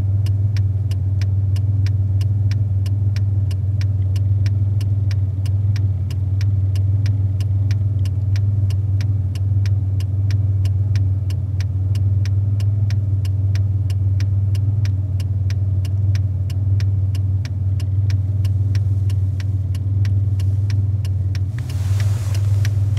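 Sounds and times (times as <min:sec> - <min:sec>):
car engine idling: 0:00.0 - 0:22.9
fast regular ticking: 0:00.2 - 0:22.9.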